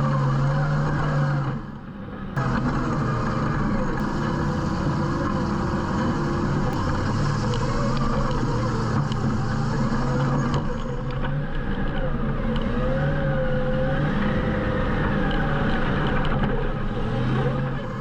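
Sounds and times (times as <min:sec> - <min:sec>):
utility vehicle engine running: 0:00.0 - 0:18.0.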